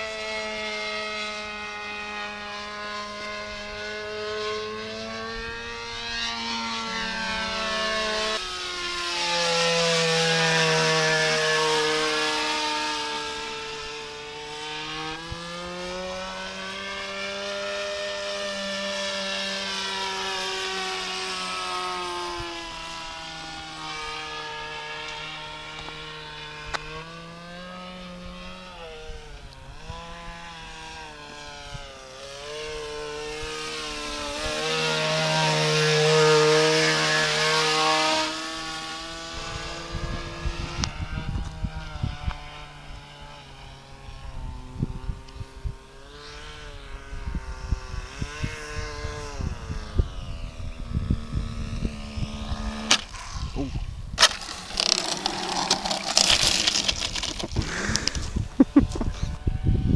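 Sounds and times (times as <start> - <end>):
model airplane engine buzzing: 0.0 - 59.9.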